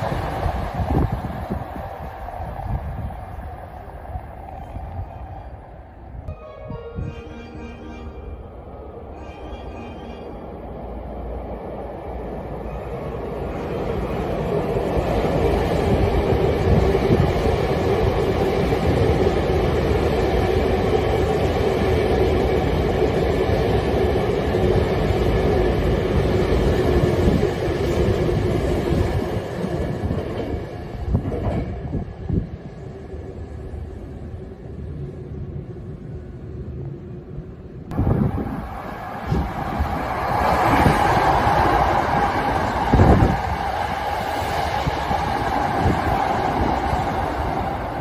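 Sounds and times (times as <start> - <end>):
train hum: 0.0 - 48.0
train rail running noise: 0.0 - 48.0.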